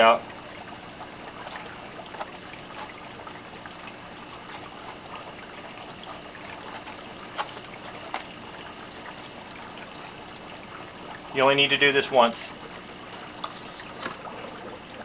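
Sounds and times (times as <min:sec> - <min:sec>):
aquarium water trickling and bubbling: 0:00.0 - 0:15.0.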